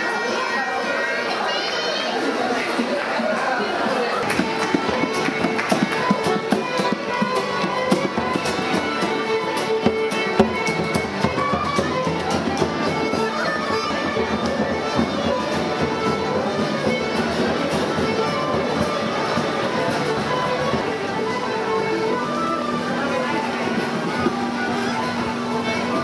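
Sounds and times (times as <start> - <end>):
folk band playing: 0.0 - 26.0.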